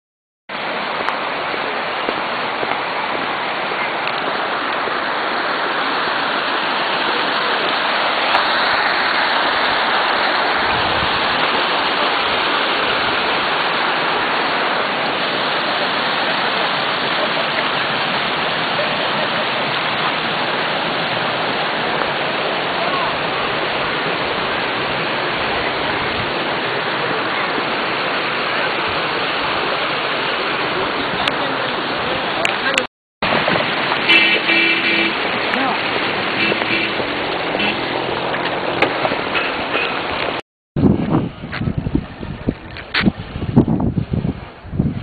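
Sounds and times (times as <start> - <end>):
water rushing over weir: 0.5 - 45.0.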